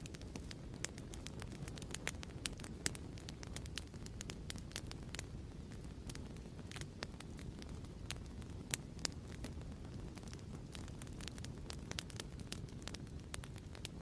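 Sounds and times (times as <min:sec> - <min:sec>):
fireplace fire crackling and popping: 0:00.0 - 0:14.0.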